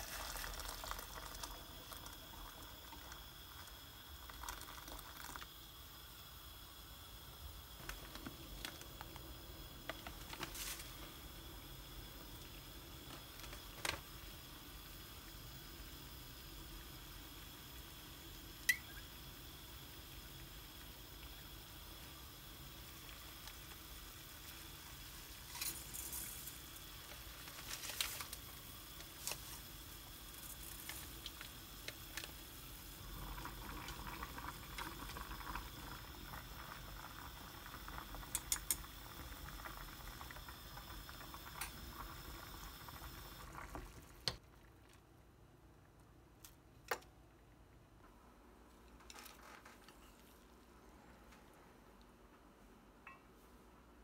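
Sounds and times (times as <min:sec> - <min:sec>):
water boiling: 0:00.0 - 0:46.0.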